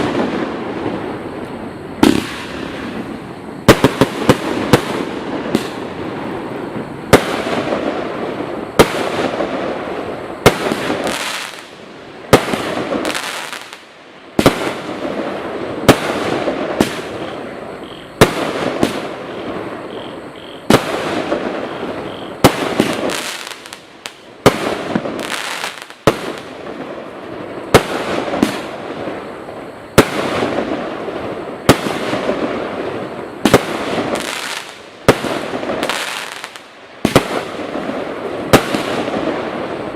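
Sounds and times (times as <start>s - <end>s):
firework crackling: 0.0s - 19.9s, 20.6s - 39.9s
firework bangs: 0.0s - 39.9s.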